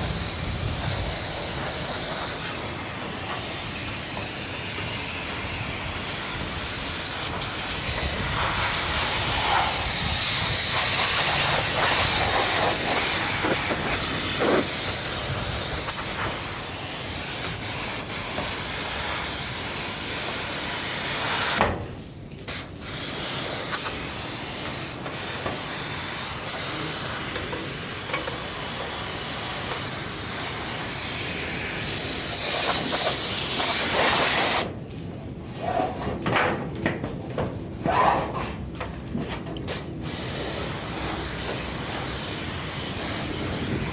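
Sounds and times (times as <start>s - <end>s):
water spray hissing: 0.0s - 21.6s, 22.5s - 34.7s, 39.7s - 43.9s.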